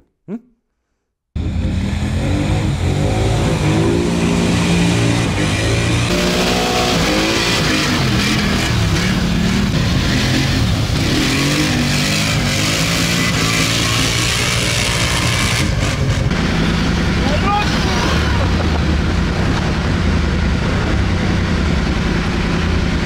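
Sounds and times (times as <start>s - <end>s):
quad engine revving: 1.4s - 23.0s
steady rush of noise: 1.4s - 23.0s.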